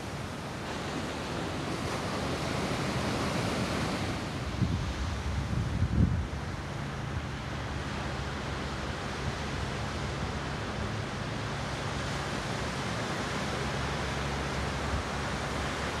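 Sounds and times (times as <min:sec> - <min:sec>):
surf breaking on a beach: 0:00.0 - 0:16.0.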